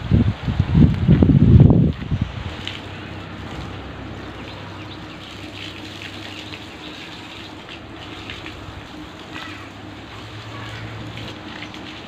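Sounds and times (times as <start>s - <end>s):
water gushing from hose: 0.0s - 12.0s
water splashing: 1.8s - 12.0s.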